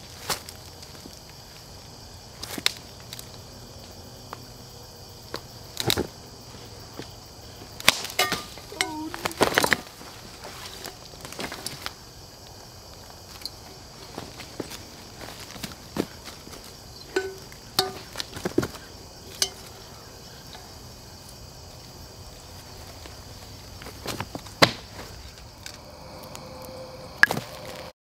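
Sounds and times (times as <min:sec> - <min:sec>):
sharp crackles and rustles: 0:00.0 - 0:04.5, 0:05.2 - 0:26.4
high insect drone: 0:00.0 - 0:28.0.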